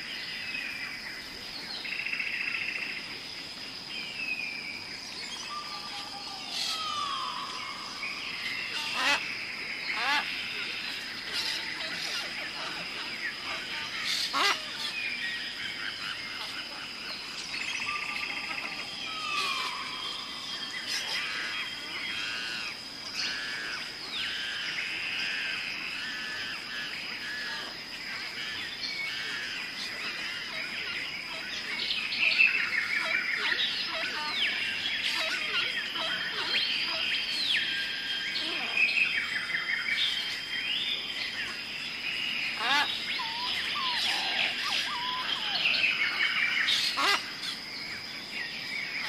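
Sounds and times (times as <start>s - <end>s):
birds chattering and chirping: 0.0s - 49.0s.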